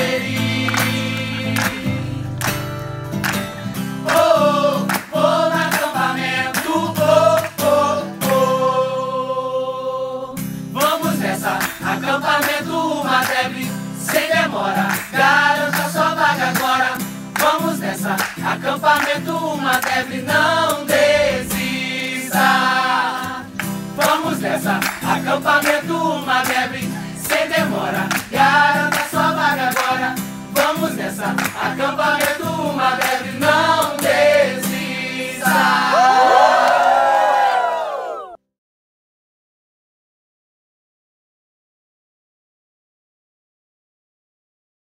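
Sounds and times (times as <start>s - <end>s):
group singing worship song: 0.0s - 2.4s, 3.8s - 38.0s
acoustic guitar: 0.0s - 36.3s.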